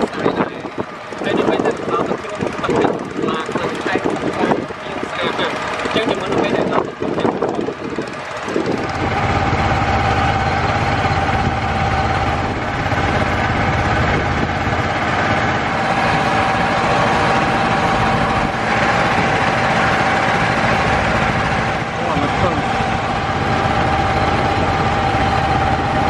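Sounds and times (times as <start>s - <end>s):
boat engine droning: 0.0s - 26.0s
steady engine whine: 0.0s - 26.0s.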